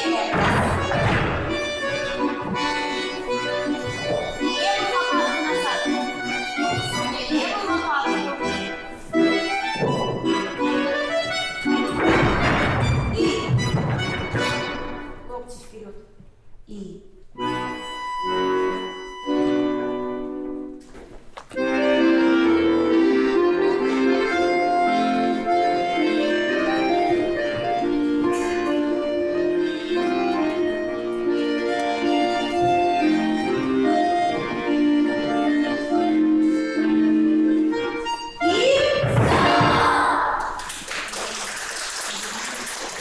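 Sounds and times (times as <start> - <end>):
accordion dance tune: 0.0 - 15.6, 17.4 - 20.7, 21.6 - 40.4.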